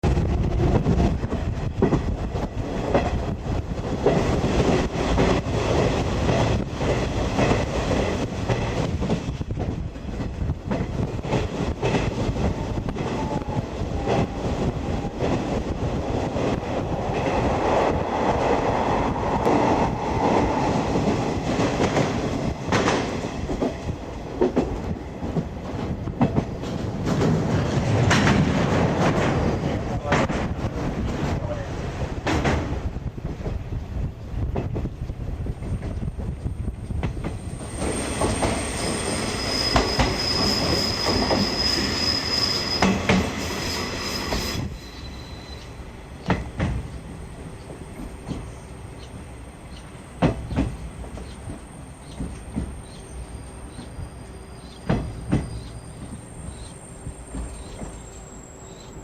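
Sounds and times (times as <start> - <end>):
rail joints clickety-clack: 0.0 - 59.0
train wheels rumbling on rail: 0.0 - 59.0.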